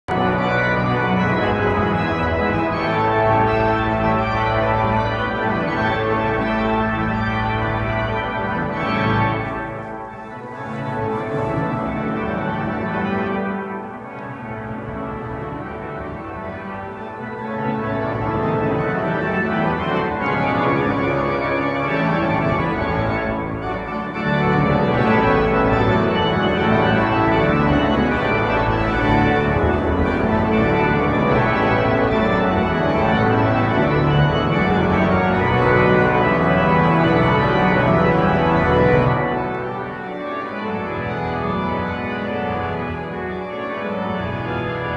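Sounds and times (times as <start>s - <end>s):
pipe organ playing full chords: 0.1s - 44.9s.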